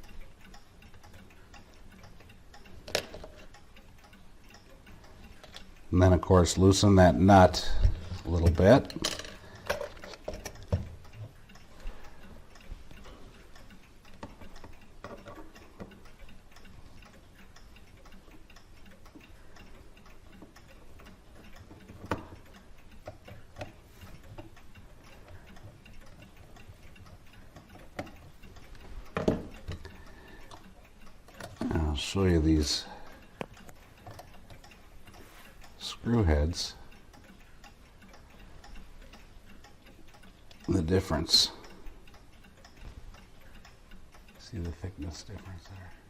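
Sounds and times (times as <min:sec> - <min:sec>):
small metallic clicks of tools: 0:00.0 - 0:05.8, 0:07.5 - 0:46.0
clock ticking: 0:00.0 - 0:46.0.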